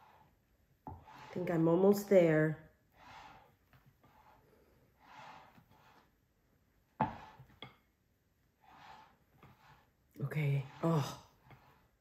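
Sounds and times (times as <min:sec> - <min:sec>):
spatula swishing in mousse: 0:00.0 - 0:06.4, 0:08.5 - 0:12.0.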